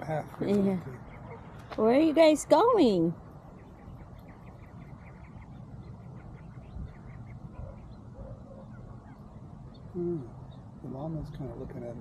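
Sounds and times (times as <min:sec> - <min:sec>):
low outdoor rumble: 0:00.0 - 0:12.0
waterbirds calling: 0:00.0 - 0:12.0.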